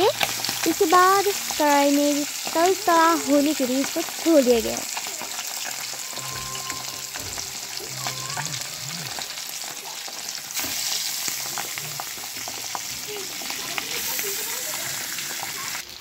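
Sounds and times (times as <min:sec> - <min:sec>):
fish sizzling in oil: 0:00.0 - 0:16.0.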